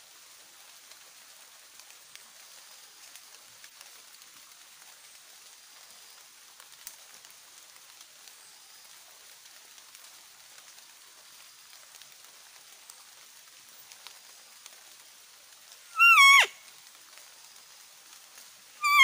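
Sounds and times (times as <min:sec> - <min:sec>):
faint high hiss: 0:00.0 - 0:19.0.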